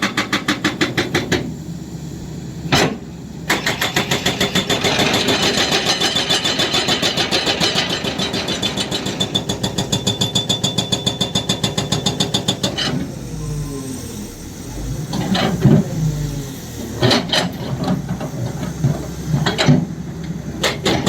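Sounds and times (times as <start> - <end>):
hydraulic breaker hammering rock: 0.0 - 1.5, 2.7 - 13.6, 15.1 - 21.0.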